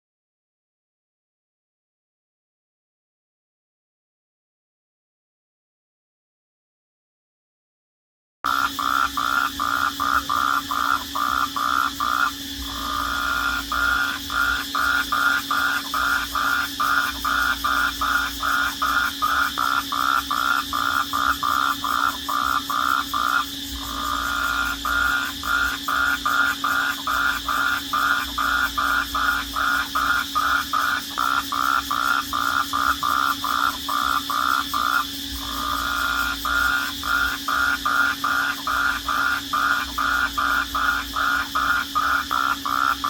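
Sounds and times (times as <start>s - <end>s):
rhythmic chirping calls: 8.5s - 43.0s
steady drone: 8.5s - 43.0s.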